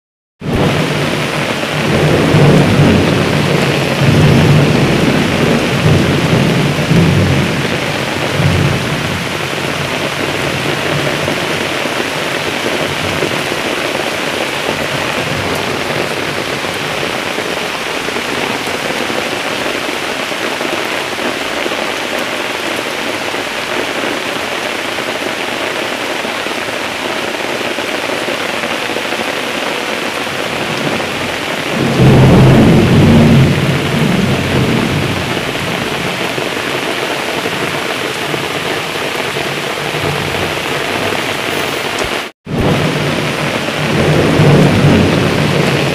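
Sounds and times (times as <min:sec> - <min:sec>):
steady rain falling: 0:00.4 - 0:45.9
thunder clap rumbling: 0:00.4 - 0:45.9.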